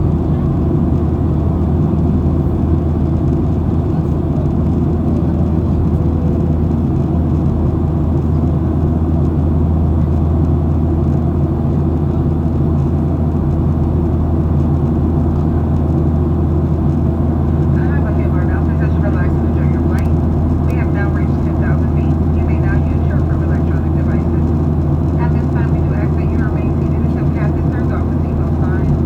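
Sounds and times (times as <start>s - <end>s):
airplane cabin engine drone: 0.0s - 29.0s.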